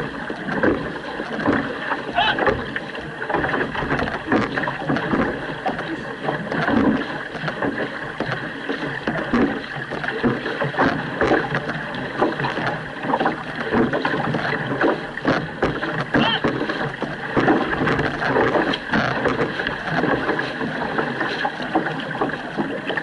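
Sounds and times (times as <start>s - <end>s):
paddles splashing through water: 0.0s - 23.0s.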